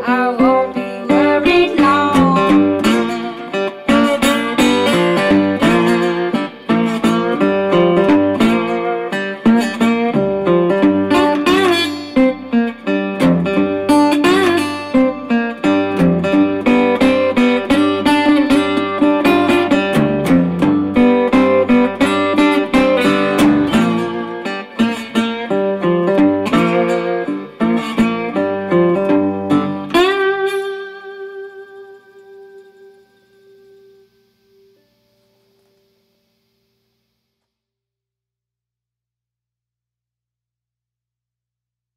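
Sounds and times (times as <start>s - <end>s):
slide guitar fingerpicked: 0.0s - 36.5s.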